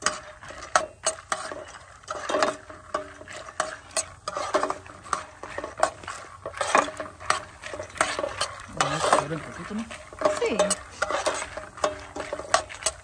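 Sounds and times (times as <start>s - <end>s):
oil sizzling: 0.0s - 13.0s
spoon scraping frying pan: 0.0s - 13.0s.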